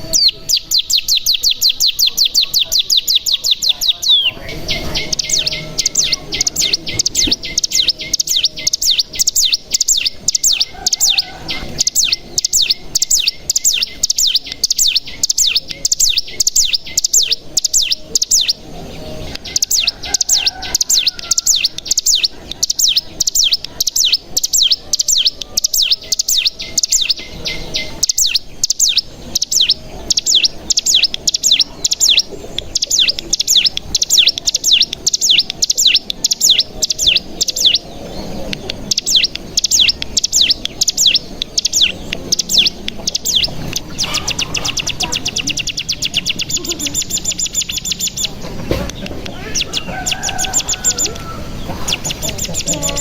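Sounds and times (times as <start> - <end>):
bird chirping and trilling: 0.0 - 53.0.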